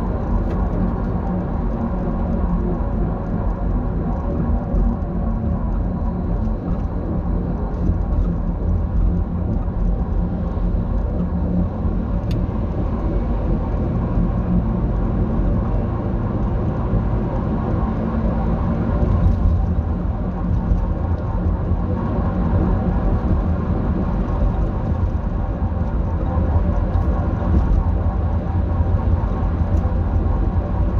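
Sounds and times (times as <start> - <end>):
van low droning rumble: 0.0 - 30.9.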